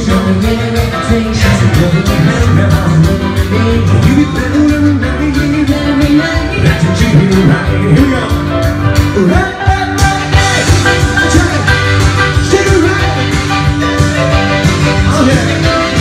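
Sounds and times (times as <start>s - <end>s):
person singing rock and roll: 0.0s - 16.0s.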